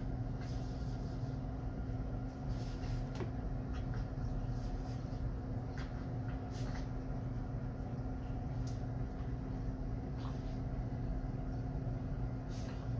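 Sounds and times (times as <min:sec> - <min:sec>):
aquarium equipment humming: 0:00.0 - 0:12.9.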